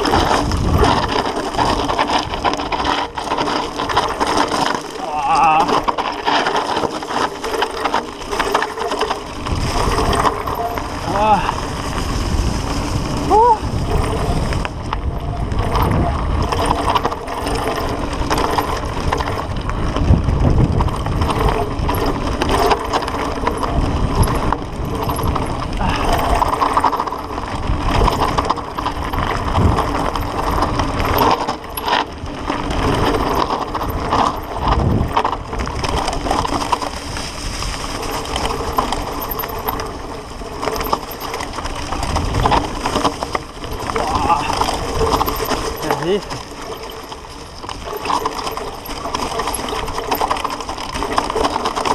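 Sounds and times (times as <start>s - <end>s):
bike rattling over bumps: 0.0s - 51.9s
tyres crunching over stones: 0.0s - 51.9s
wind rumble on microphone: 0.0s - 51.9s.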